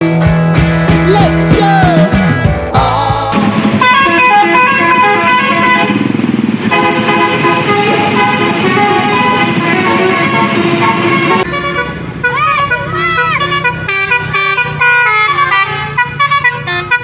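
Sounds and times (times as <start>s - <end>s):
bus multi-tone horn melody: 3.4s - 17.0s.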